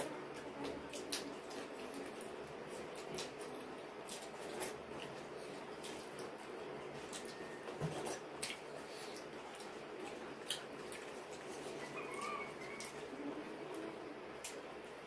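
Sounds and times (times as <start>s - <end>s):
steady background hum: 0.0s - 15.0s
chewing and lip smacks: 0.4s - 14.7s.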